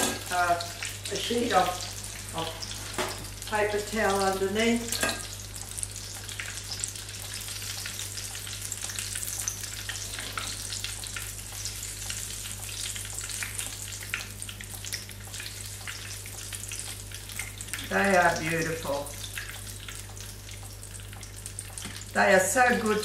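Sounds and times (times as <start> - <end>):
deep-frying sizzle and pops: 0.0 - 23.0
low steady hum: 0.0 - 23.0.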